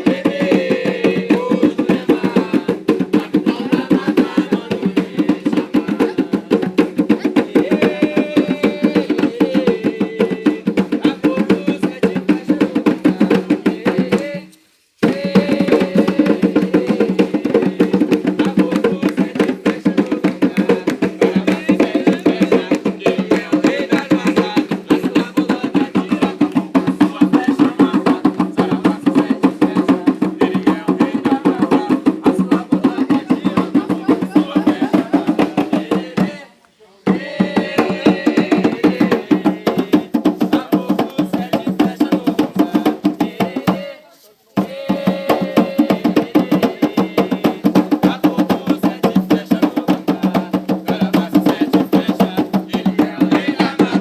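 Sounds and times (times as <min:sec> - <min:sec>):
fast hand drumming: 0:00.0 - 0:36.4, 0:37.0 - 0:43.9, 0:44.6 - 0:54.0.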